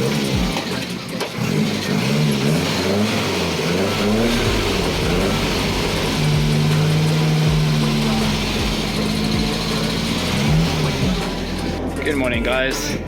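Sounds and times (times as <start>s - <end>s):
petrol engine revving: 0.0s - 12.2s.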